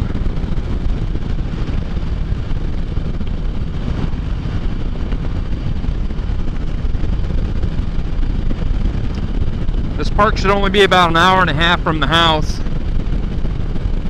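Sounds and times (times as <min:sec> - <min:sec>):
engine and road rumble: 0:00.0 - 0:14.0
wind rush on microphone: 0:00.0 - 0:14.0.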